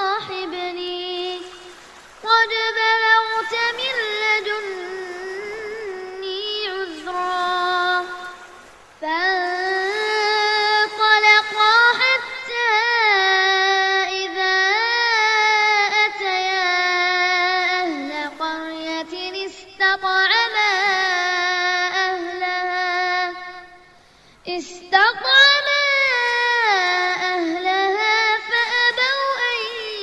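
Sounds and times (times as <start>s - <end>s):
child chanting melodic recitation: 0.0s - 1.5s, 2.3s - 8.4s, 9.0s - 23.8s, 24.4s - 30.0s.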